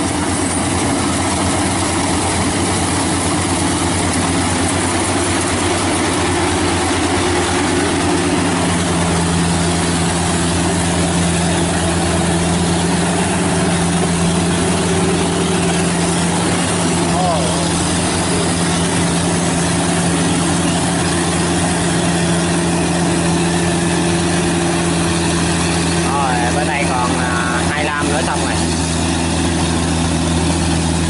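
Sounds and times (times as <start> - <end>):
combine harvester humming: 0.0 - 31.0.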